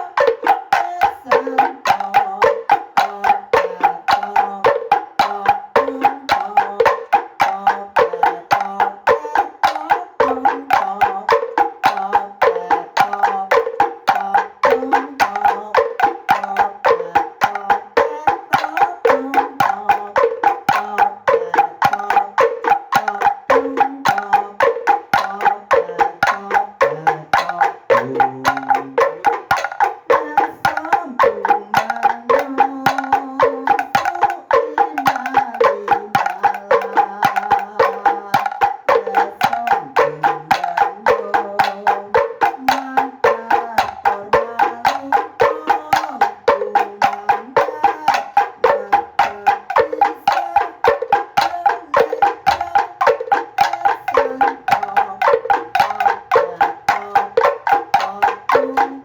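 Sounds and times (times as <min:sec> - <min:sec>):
wooden slit drums rhythm: 0:00.0 - 0:59.0.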